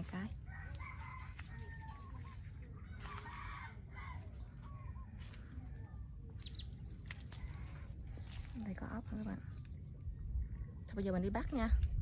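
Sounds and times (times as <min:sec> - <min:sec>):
birds chirping: 0:00.0 - 0:11.8
low steady rumble: 0:00.0 - 0:12.0.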